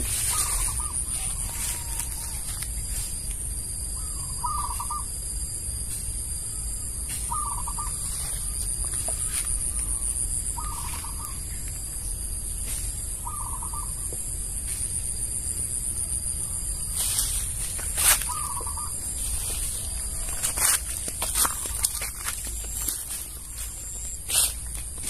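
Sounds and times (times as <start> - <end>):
steady high-pitched hiss: 0.0 - 25.0.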